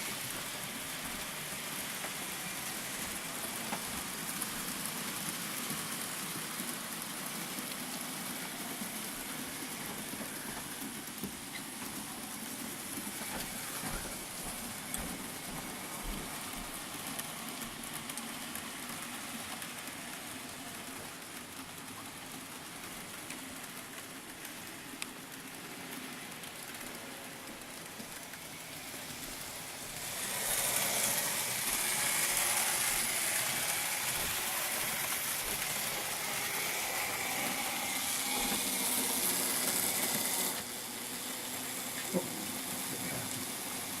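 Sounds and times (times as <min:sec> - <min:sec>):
model train running on track: 0:00.0 - 0:44.0.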